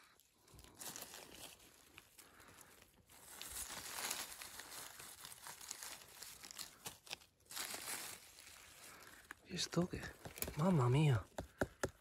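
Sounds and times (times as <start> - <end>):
dry leaves rustling and crackling: 0.2 - 9.9.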